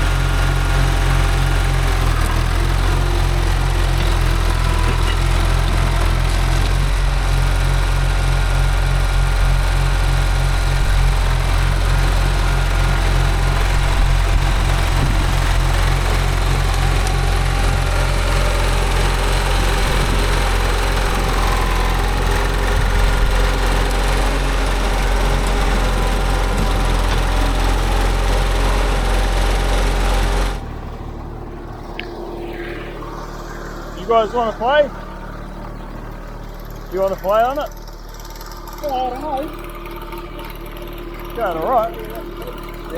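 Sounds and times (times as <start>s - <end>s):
diesel bulldozer engine droning: 0.0s - 42.9s.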